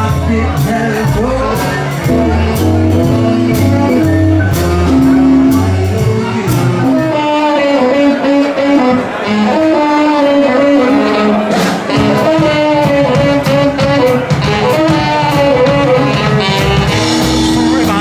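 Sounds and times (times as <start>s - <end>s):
guitar: 0.0s - 18.0s
horn lead line: 0.0s - 18.0s
steady drum beat: 0.0s - 18.0s.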